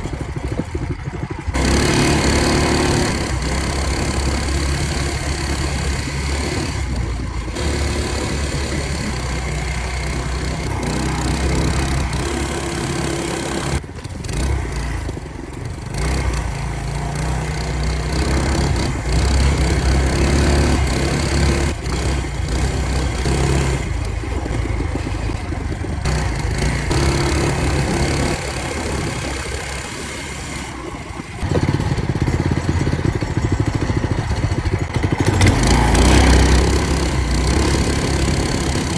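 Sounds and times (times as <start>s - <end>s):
mini bike engine revving: 0.0s - 38.9s.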